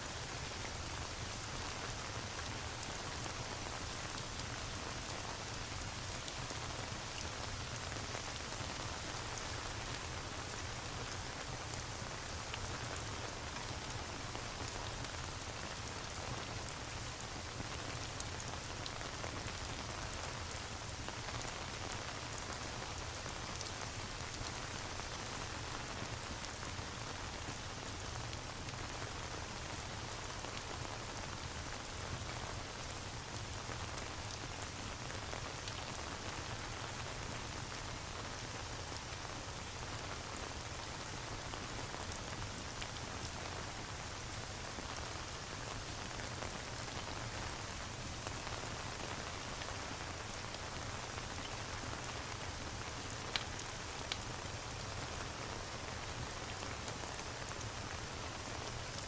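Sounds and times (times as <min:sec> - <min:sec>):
rain: 0:00.0 - 0:59.0.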